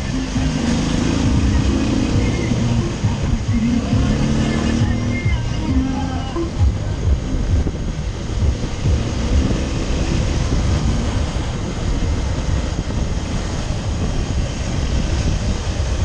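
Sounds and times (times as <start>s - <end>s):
low rumble of travel noise: 0.0s - 16.0s
wind buffeting microphone: 0.0s - 16.0s.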